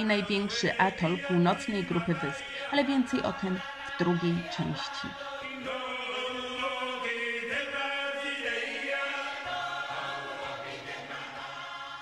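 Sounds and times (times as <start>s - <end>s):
voices chanting long notes: 0.0s - 12.0s.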